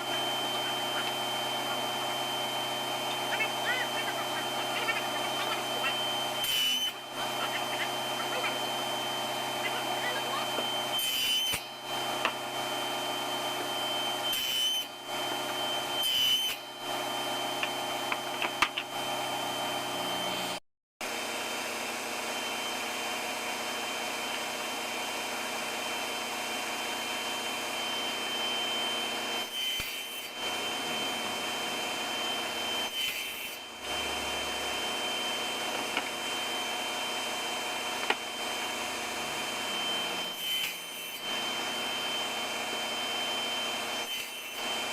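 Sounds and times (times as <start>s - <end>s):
table saw running: 0.0s - 44.9s.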